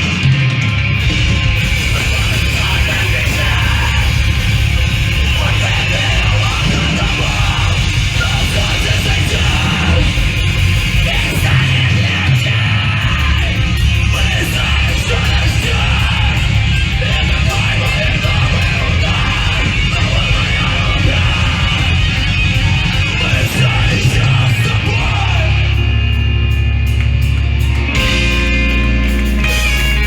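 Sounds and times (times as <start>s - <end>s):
punk band playing loudly: 0.0s - 30.0s.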